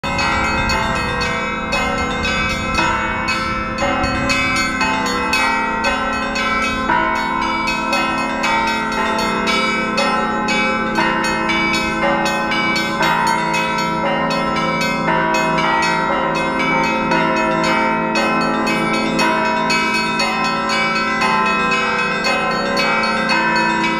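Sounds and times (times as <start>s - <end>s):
ringing of larger bells: 0.0s - 23.9s
small bells struck rapidly: 0.0s - 23.9s.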